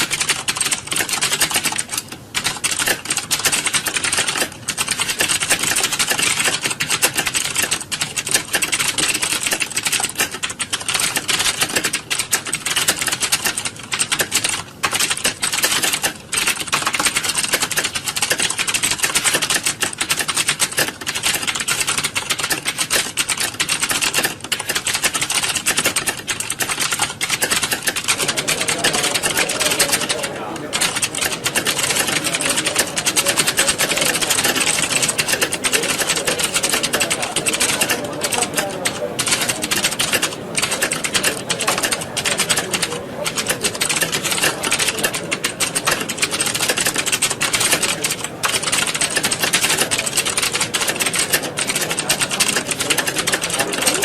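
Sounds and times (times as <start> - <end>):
many keyboards typing: 0.0 - 54.0.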